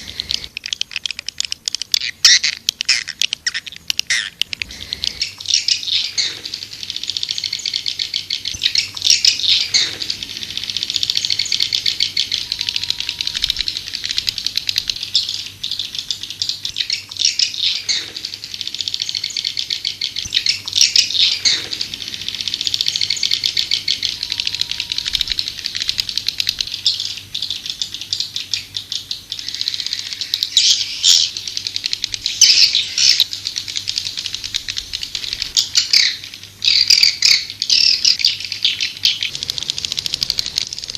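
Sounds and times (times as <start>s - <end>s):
high-pitched bird twittering: 0.0s - 40.9s.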